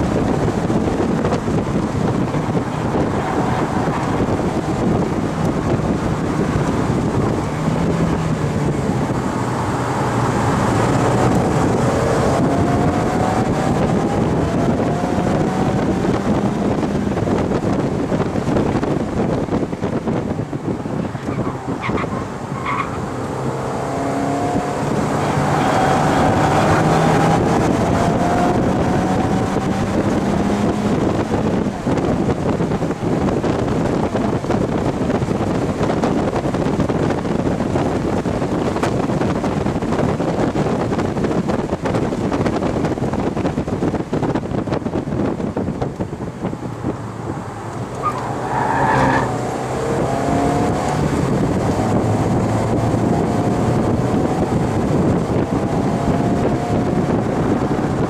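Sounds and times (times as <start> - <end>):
car engine accelerating: 0.0 - 58.0
road noise: 0.0 - 58.0
wind noise: 0.0 - 58.0.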